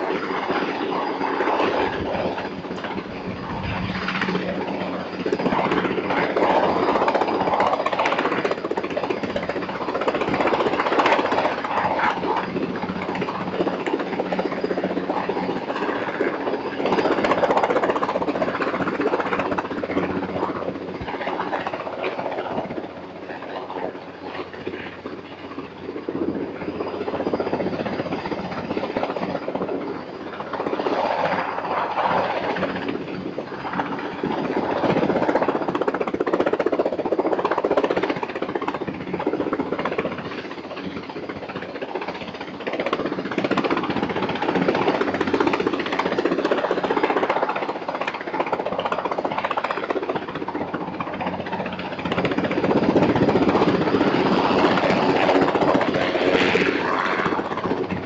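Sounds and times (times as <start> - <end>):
helicopter rotor beating: 0.0 - 58.0.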